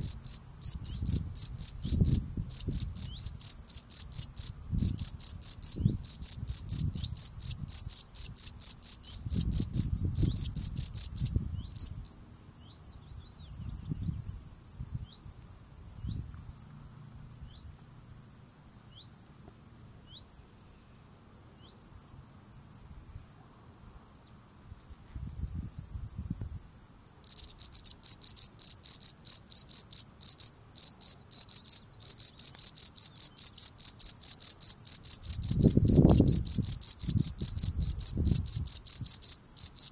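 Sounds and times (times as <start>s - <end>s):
cricket chirping: 0.0s - 39.9s
faint cricket chirping: 0.0s - 39.9s.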